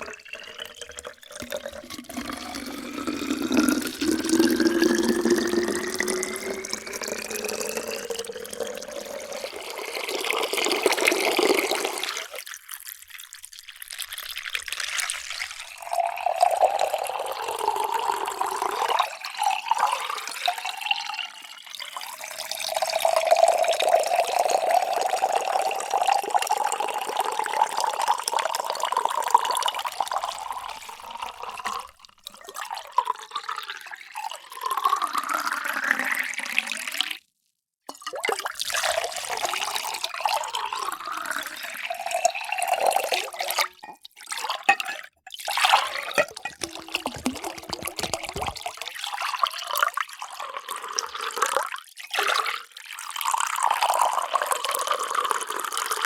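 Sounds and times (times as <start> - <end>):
water pouring into a vessel: 0.0 - 37.3, 37.9 - 56.0.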